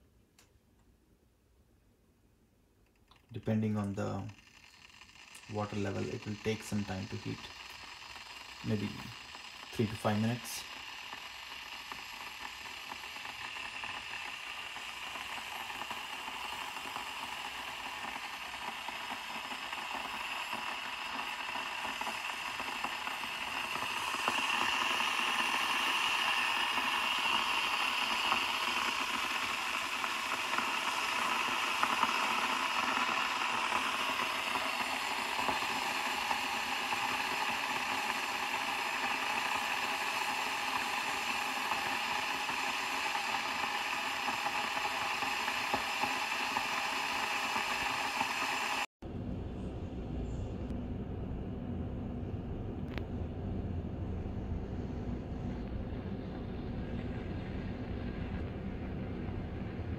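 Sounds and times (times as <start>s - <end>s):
electric kettle heating water: 3.0s - 48.9s, 50.7s - 59.9s.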